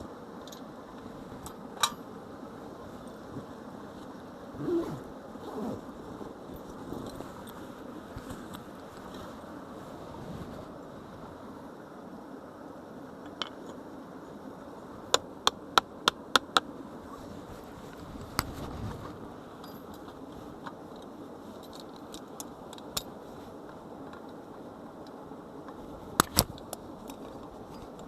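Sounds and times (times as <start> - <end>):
steady low hiss: 0.0 - 28.0.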